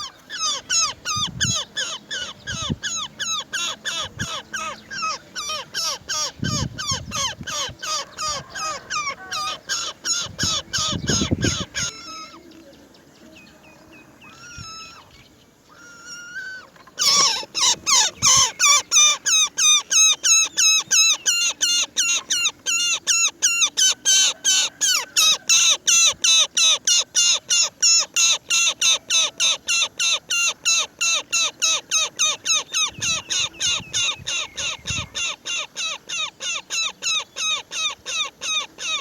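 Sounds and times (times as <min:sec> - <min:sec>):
nestlings begging calls: 0:00.0 - 0:12.5, 0:14.3 - 0:39.0.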